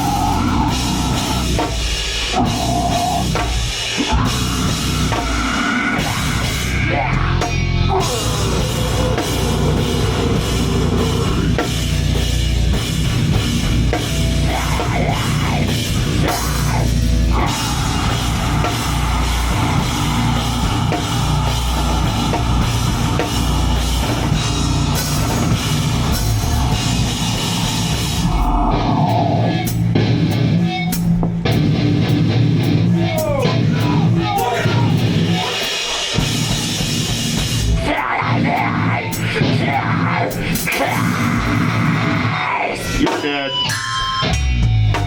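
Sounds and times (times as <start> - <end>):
drum kit with crashing cymbals: 0.0 - 39.7
bass guitar: 0.0 - 45.0
distorted guitars: 0.0 - 45.0.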